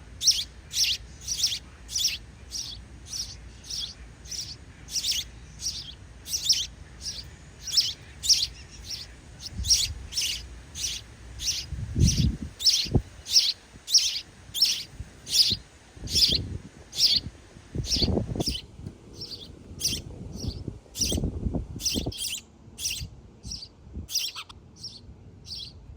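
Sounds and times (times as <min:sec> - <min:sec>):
sparrow chirping: 0:00.0 - 0:25.8.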